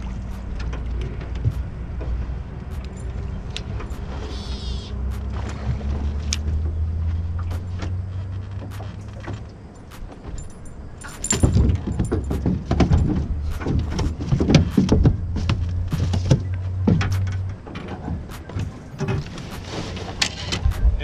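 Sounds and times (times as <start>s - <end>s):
knocks and thumps on boat deck: 0.0s - 4.1s, 5.3s - 21.0s.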